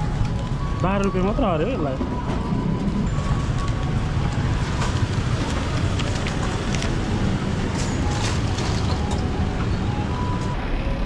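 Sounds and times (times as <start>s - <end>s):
street noise rumble: 0.0s - 11.0s.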